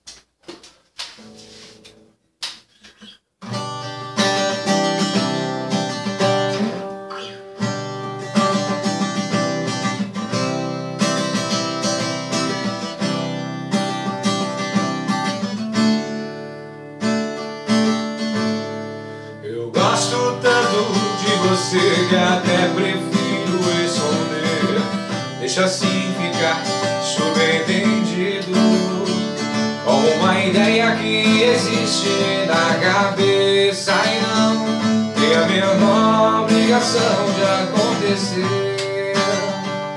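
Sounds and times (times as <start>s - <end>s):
acoustic guitar playing: 1.0s - 39.9s.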